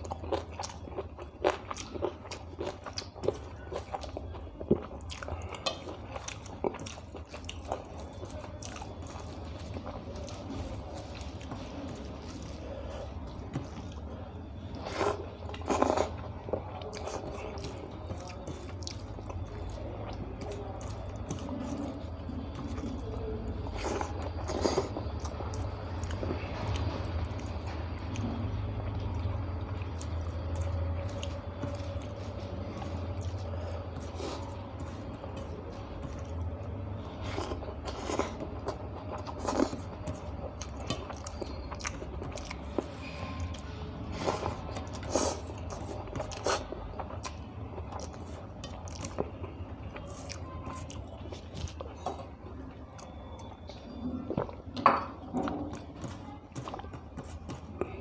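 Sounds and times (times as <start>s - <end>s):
person chewing and crunching: 0.0s - 58.0s.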